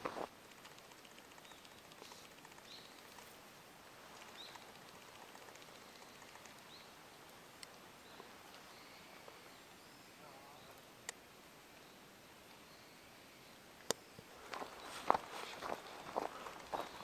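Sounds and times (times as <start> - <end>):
small bird calling: 0.0 - 3.4, 4.1 - 10.9, 11.8 - 17.0
faint hiss: 0.0 - 17.0.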